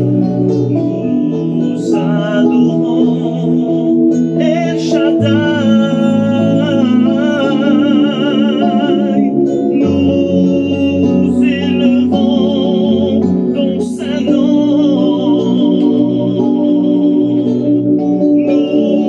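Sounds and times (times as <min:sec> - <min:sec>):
instrumental accompaniment: 0:00.0 - 0:19.0
person singing a hymn with vibrato: 0:00.0 - 0:19.0.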